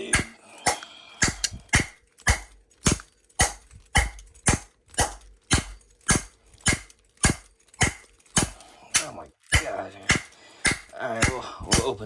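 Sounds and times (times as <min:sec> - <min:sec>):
wood whacking a padlock: 0:00.0 - 0:12.0.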